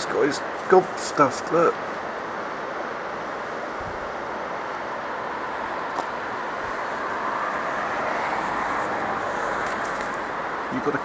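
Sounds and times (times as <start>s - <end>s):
outdoor rushing noise: 0.0s - 11.0s.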